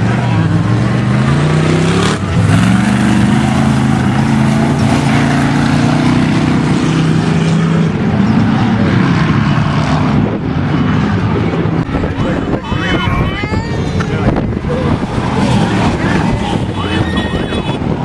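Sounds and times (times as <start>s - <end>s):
race truck engine running hard: 0.0s - 18.0s
wind and terrain rushing: 0.0s - 18.0s.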